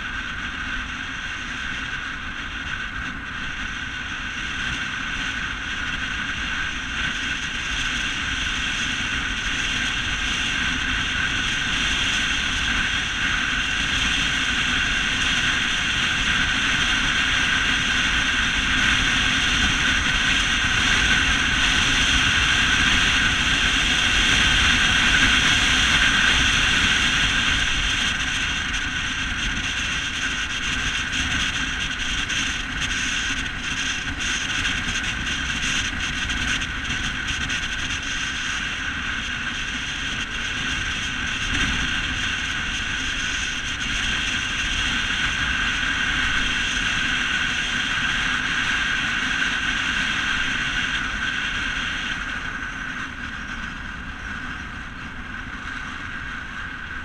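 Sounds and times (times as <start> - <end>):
road noise: 0.0 - 57.0
wind noise: 0.0 - 57.0.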